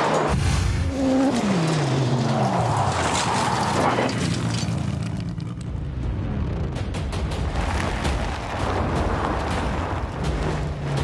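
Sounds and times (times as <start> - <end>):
tyres churning dirt and gravel: 0.0 - 11.0.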